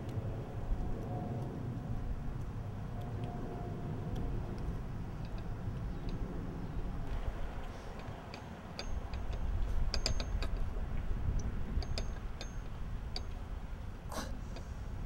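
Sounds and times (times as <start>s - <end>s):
light ticks and clicks: 0.0s - 13.6s
wind rumble on microphone: 0.0s - 15.0s.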